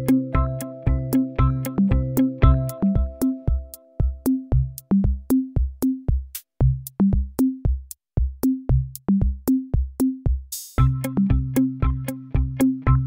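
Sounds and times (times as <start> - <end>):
electronic drum machine beat: 0.0 - 13.0.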